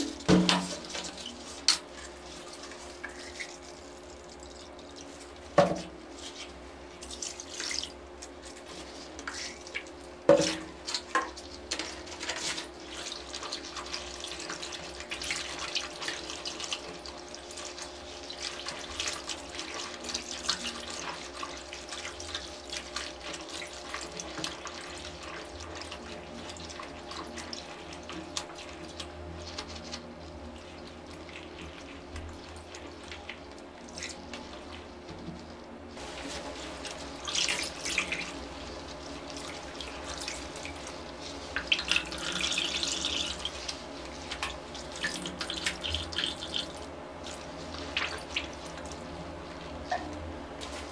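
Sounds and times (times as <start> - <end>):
wet clothing sloshed and squeezed: 0.0 - 50.9.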